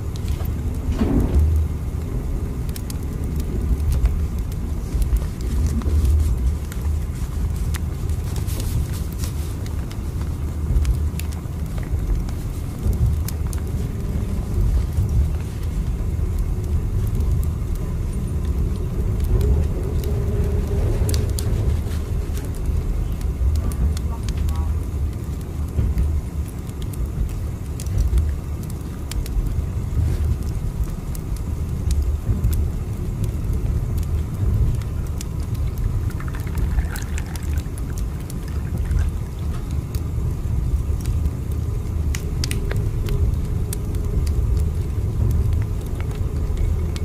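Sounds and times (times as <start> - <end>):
train rumbling: 0.0 - 47.0
light clicks and ticks: 2.7 - 40.1, 40.9 - 47.0.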